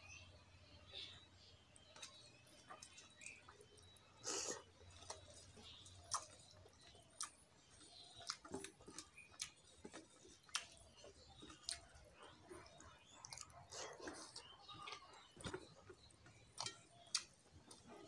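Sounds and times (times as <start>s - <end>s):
soft wet squishing: 0.9s - 18.0s
chewing: 1.8s - 18.0s.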